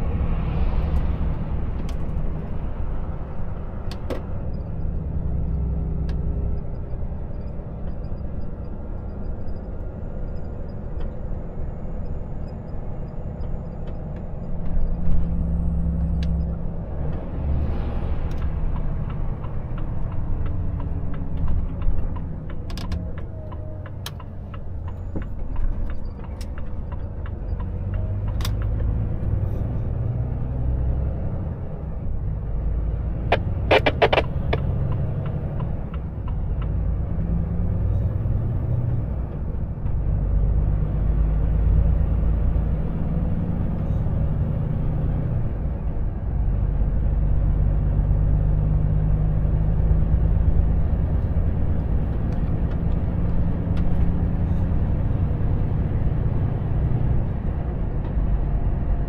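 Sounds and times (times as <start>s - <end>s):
tyre and road noise: 0.0s - 59.0s.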